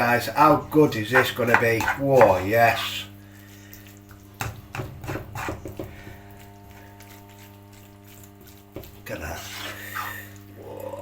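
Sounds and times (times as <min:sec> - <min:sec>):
utensil scraping cooking pan: 0:00.0 - 0:03.7, 0:04.4 - 0:10.4
low electrical hum: 0:00.0 - 0:11.0.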